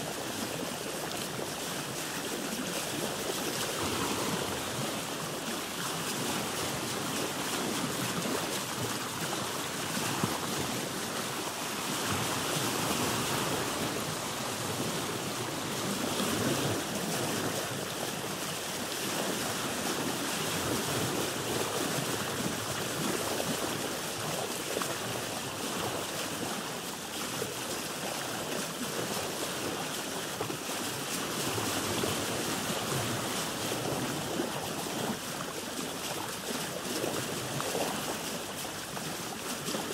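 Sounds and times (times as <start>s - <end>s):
water lapping against boat hull: 0.0s - 39.9s.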